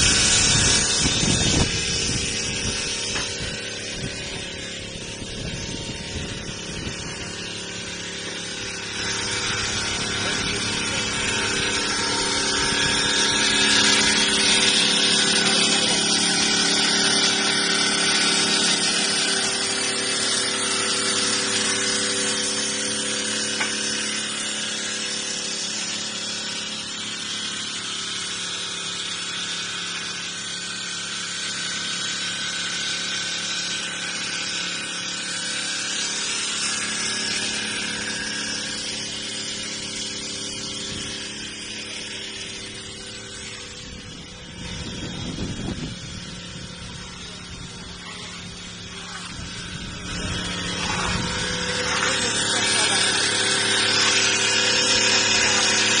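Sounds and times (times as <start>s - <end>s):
saw motor hum: 0.0s - 56.0s
stone saw cutting: 0.0s - 56.0s.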